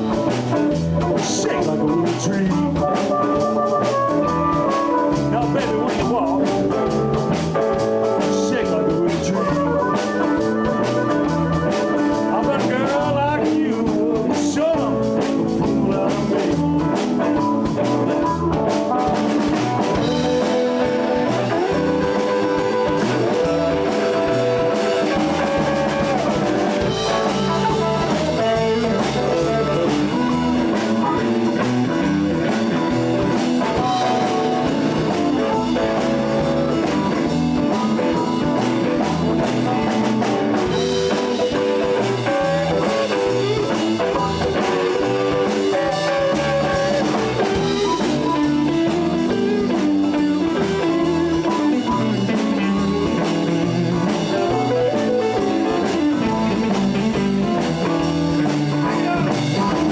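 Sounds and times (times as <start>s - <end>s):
bass guitar: 0.0s - 59.9s
drums: 0.0s - 59.9s
electric guitar with bent notes: 0.0s - 59.9s.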